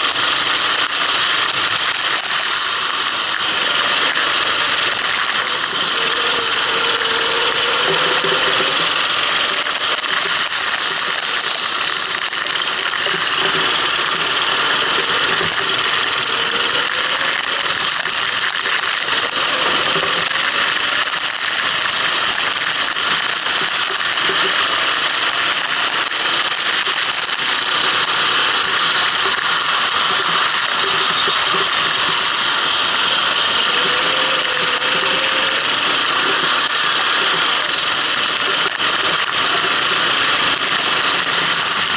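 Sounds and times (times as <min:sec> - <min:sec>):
go-kart engine running: 0:00.0 - 0:41.9.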